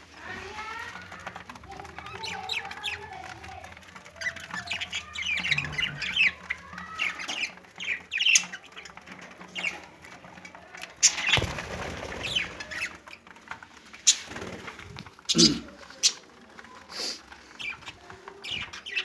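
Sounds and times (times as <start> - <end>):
budgerigars chirping and squawking: 0.4 - 19.0.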